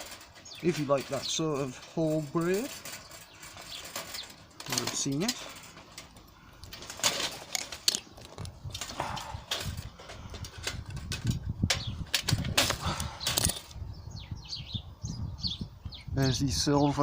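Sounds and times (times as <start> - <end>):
metal parts clicking and clinking: 0.0 - 13.8.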